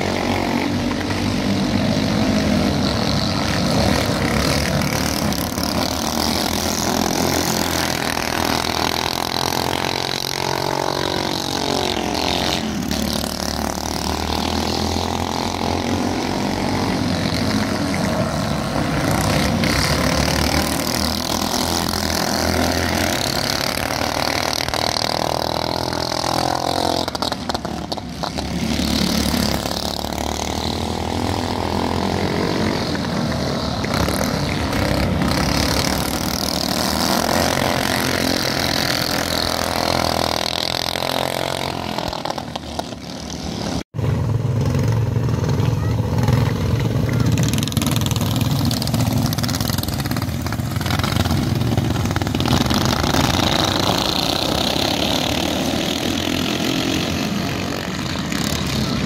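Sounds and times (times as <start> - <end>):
racing kart engines: 0.0 - 59.0.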